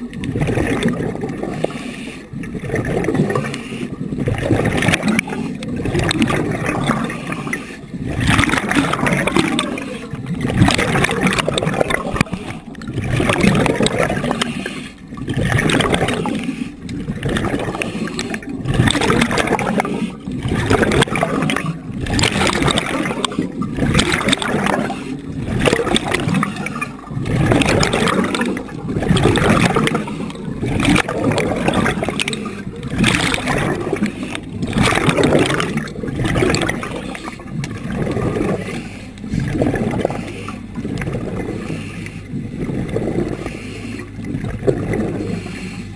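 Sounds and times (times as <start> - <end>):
water rushing and gurgling: 0.0 - 45.9.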